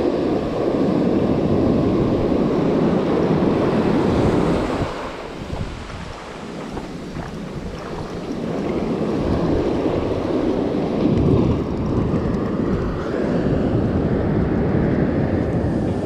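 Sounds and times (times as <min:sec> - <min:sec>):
sea water washing: 0:00.0 - 0:16.0
wind buffeting microphone: 0:00.0 - 0:16.0.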